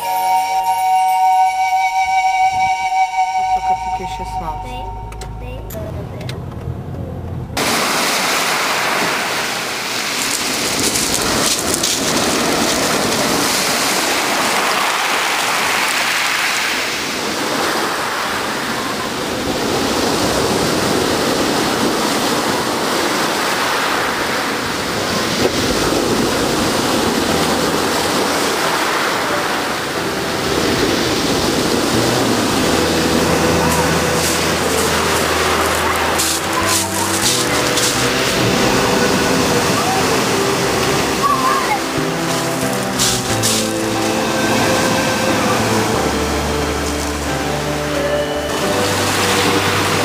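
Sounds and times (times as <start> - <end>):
waves breaking on rocks and pebbles: 7.6 - 50.0.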